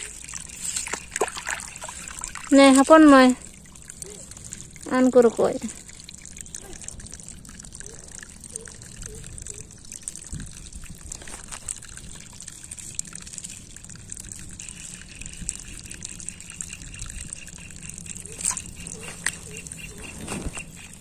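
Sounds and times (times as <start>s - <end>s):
water trickling: 0.0s - 21.0s.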